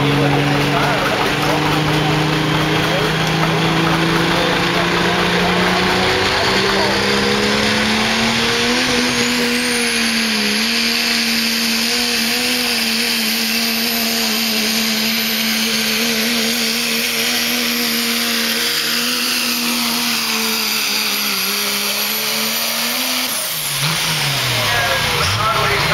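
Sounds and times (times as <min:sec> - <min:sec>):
diesel engine at high revs: 0:00.0 - 0:25.9.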